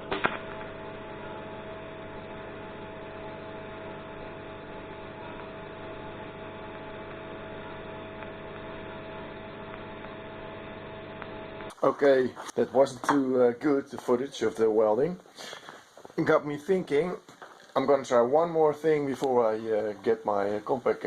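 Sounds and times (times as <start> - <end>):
welding arc humming: 0.0 - 21.0.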